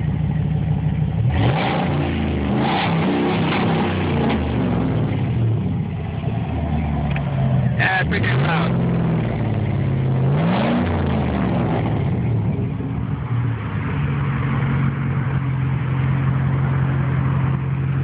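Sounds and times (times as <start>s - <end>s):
loud engine revving and idling: 0.0s - 18.0s.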